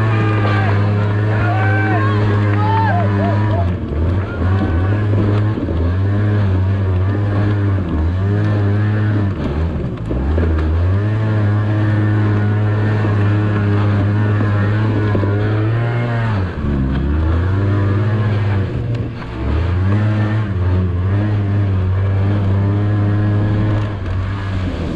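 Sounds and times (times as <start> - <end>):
scooter engine revving: 0.0 - 24.9.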